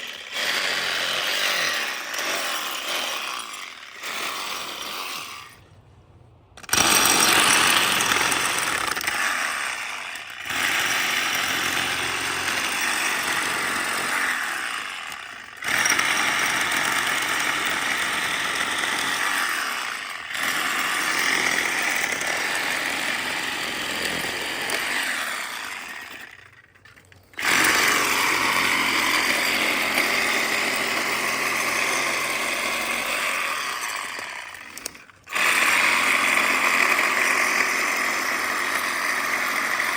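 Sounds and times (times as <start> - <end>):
reciprocating saw cutting branches: 0.0 - 26.4, 27.0 - 39.9.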